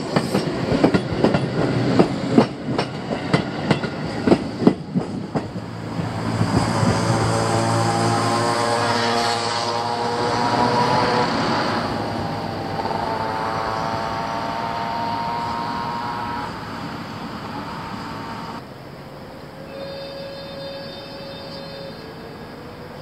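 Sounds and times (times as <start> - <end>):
electric train running noise: 0.0 - 23.0
train multi-tone whine: 0.0 - 23.0.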